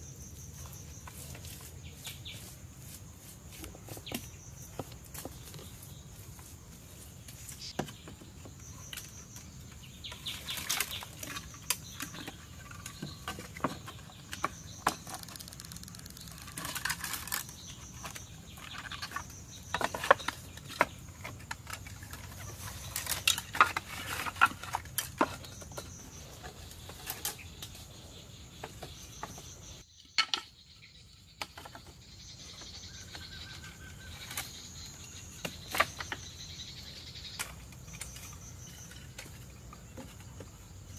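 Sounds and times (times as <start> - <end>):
forest insects droning: 0.0 - 40.9
bamboo and sticks knocking: 0.5 - 27.9, 28.5 - 40.9.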